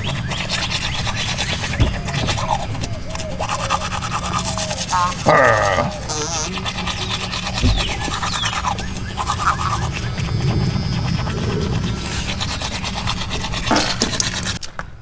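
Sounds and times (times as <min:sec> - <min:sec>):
toothbrush scrubbing teeth: 0:00.0 - 0:14.7.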